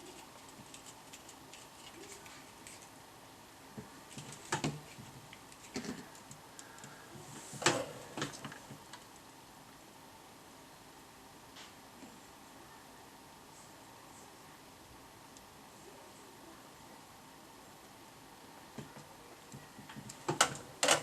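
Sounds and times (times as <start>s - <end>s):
faint background hiss: 0.0s - 21.0s.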